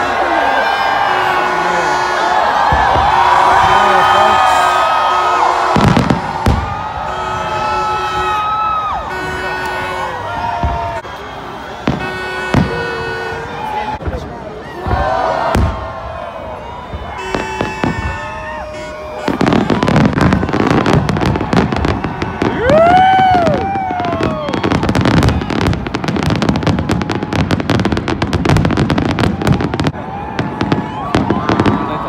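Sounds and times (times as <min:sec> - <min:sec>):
fireworks bangs and crackles: 0:00.1 - 0:32.0.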